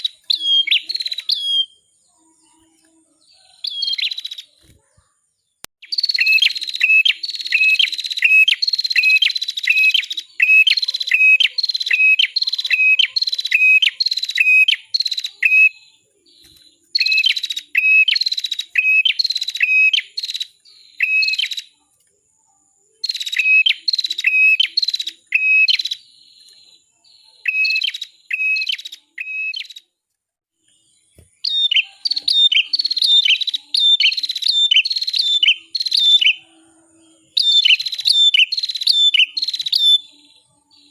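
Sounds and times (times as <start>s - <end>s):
songbird whistled chirps: 0.0s - 4.7s, 5.8s - 21.8s, 23.0s - 29.8s, 30.7s - 36.5s, 37.2s - 40.9s.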